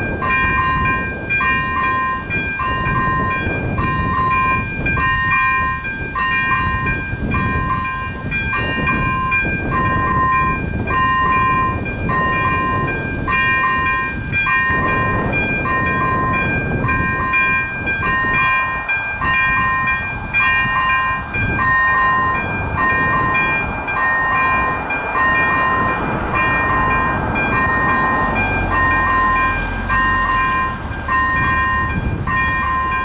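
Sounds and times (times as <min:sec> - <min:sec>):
level-crossing warning bell ringing: 0:00.0 - 0:33.0.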